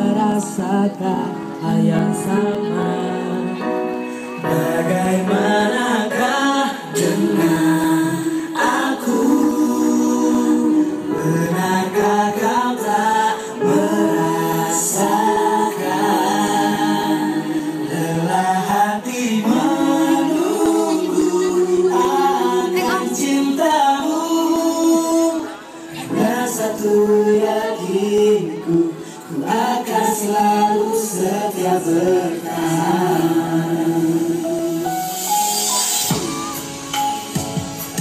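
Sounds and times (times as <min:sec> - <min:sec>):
group singing in harmony: 0:00.0 - 0:36.5.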